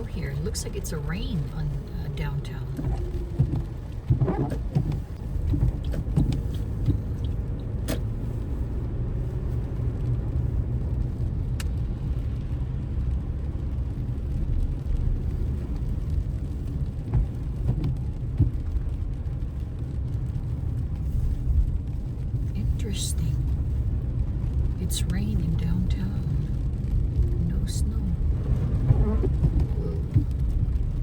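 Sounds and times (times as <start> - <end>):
vehicle road and engine rumble: 0.0 - 31.0.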